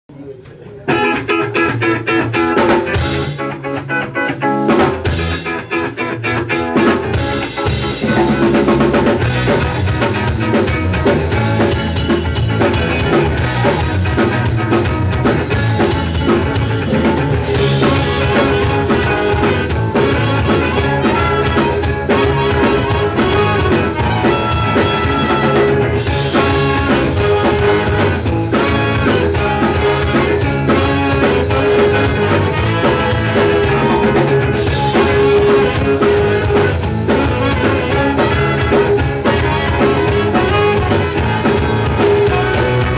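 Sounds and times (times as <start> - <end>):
ska-punk band playing live: 0.8 - 42.9.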